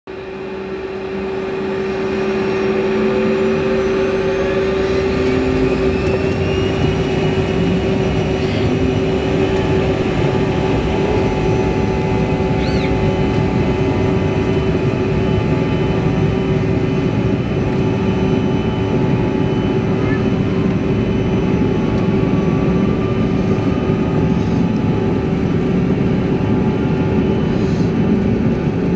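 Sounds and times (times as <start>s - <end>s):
jet engines spooling up: 0.2s - 28.9s.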